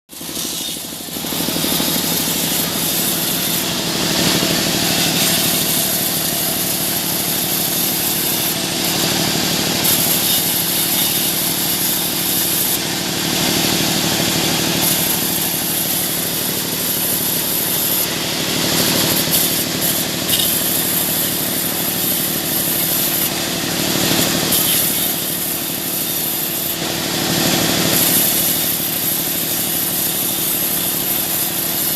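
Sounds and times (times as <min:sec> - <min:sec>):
saw cutting wood: 0:00.1 - 0:31.9.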